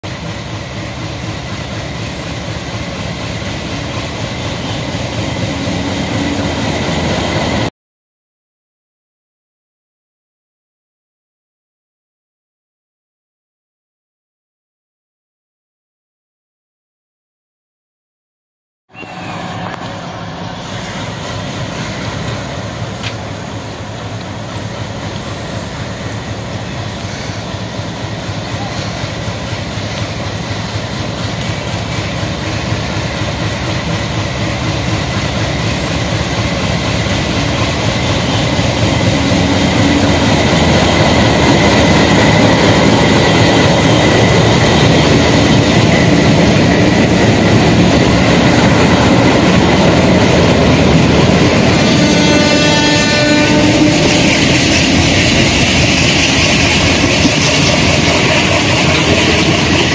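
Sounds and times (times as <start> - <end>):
diesel locomotive engine drone: 0.0 - 7.7, 18.9 - 59.9
train rumbling on track: 0.0 - 7.7, 18.9 - 59.9.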